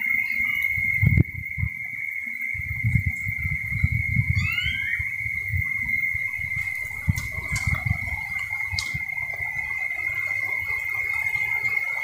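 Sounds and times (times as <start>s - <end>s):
high insect drone: 0.0s - 12.0s
wind buffeting microphone: 0.6s - 12.0s.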